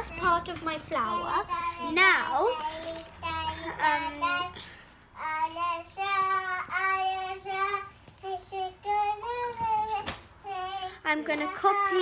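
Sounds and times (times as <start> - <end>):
child singing: 1.1 - 12.0.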